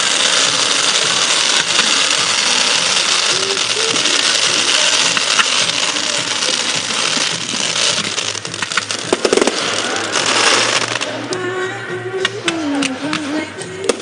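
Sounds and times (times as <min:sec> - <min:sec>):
sharp firework cracks: 0:00.0 - 0:11.4
fireworks crackling: 0:00.0 - 0:14.0.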